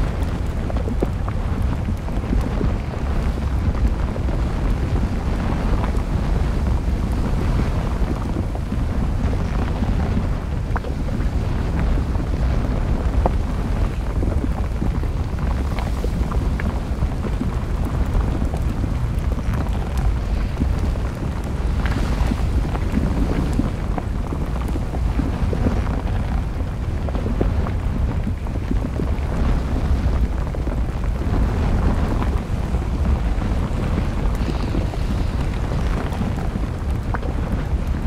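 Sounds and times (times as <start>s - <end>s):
lava crackling and popping: 0.0s - 38.0s
volcanic eruption rumble: 0.0s - 38.0s.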